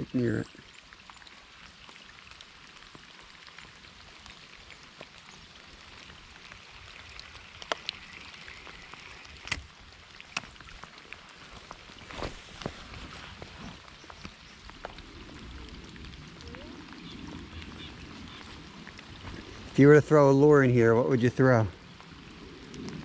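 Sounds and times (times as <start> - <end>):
light rain pattering on water: 0.0 - 23.0.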